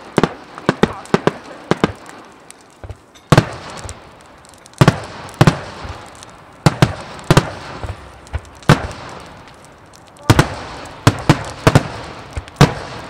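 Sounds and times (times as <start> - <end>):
fireworks booming with echo: 0.0 - 13.0.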